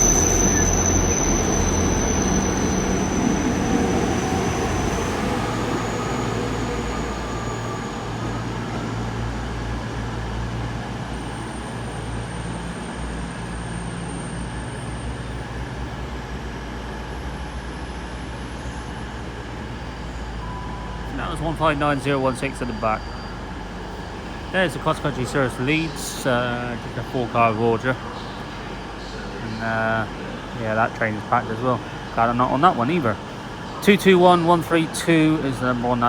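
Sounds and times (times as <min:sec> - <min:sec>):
diesel train engines rumbling: 0:00.0 - 0:36.0.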